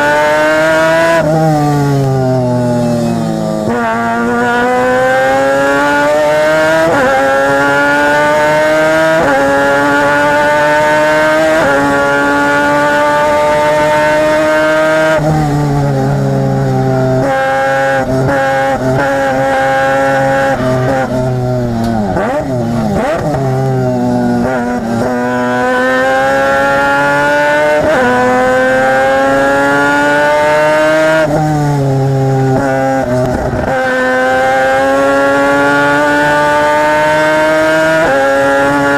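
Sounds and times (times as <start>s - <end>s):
rotary race car engine revving: 0.0s - 38.9s.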